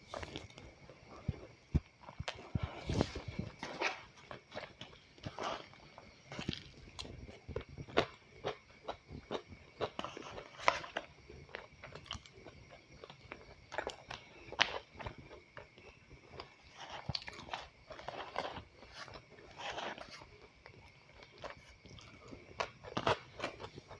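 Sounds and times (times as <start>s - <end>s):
person crunching and chewing food: 0.0s - 23.9s.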